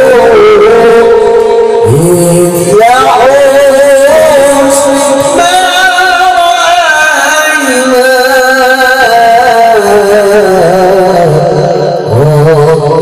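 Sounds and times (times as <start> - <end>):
man singing devotional melody: 0.0 - 13.0.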